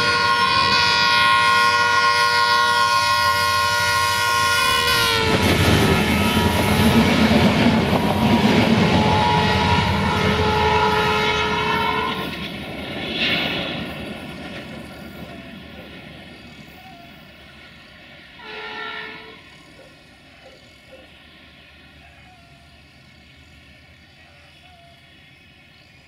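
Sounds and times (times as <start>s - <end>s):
train coaches rolling on jointed track: 0.0s - 26.0s.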